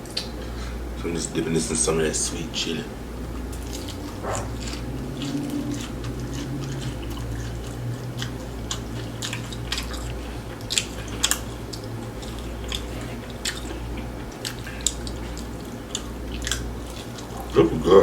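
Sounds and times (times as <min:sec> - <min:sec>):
steady low hum: 0:00.0 - 0:18.0
chewing and crunching: 0:02.0 - 0:18.0.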